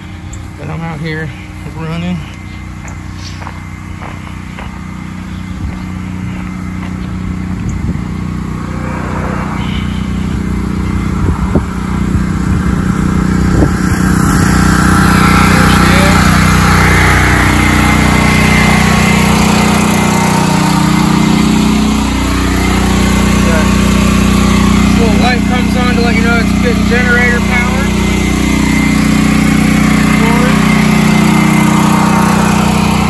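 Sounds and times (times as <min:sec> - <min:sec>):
generator engine running: 0:00.0 - 0:33.0.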